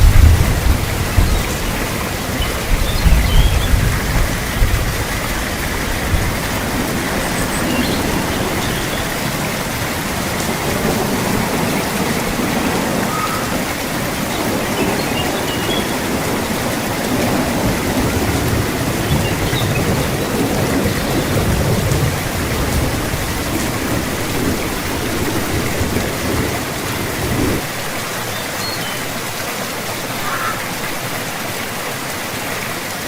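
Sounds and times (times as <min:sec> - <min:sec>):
distant thunder rumble: 0:00.0 - 0:27.6
heavy rain falling: 0:00.0 - 0:33.0.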